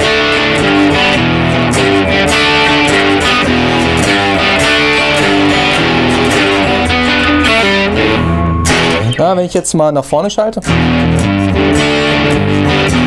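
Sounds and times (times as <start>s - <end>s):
electric guitar strumming chords: 0.0s - 13.0s.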